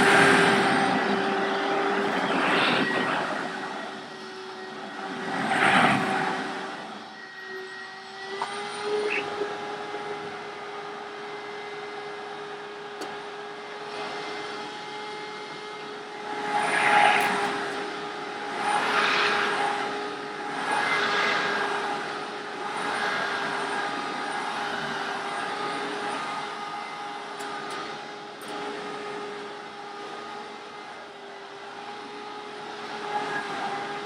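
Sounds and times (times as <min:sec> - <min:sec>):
vacuum cleaner motor whine: 0:00.0 - 0:34.0.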